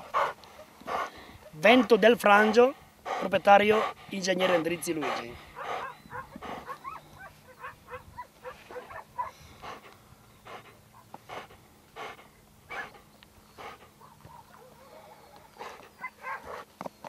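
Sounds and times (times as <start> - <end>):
dog panting: 0.0 - 16.7.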